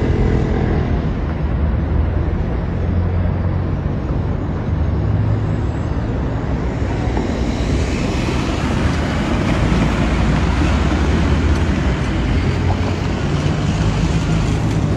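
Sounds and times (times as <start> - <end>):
vehicles driving on dirt road: 0.0 - 14.9.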